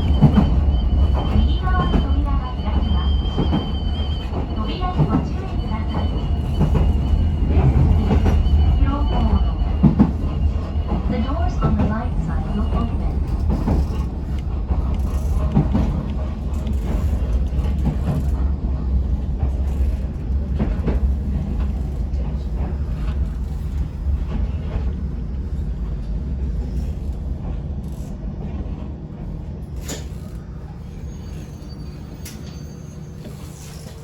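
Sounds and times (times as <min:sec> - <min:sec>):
electric train rumbling on rails: 0:00.0 - 0:34.0.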